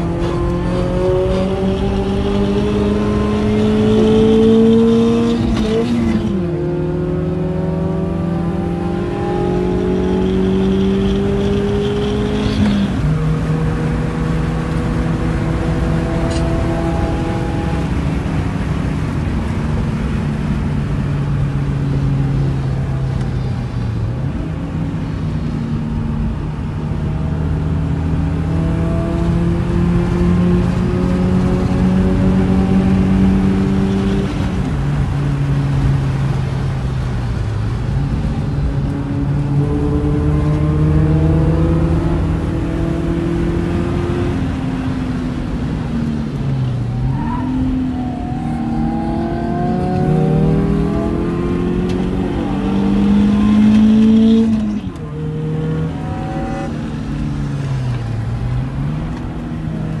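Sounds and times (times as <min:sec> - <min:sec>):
car engine accelerating: 0:00.0 - 1:00.0.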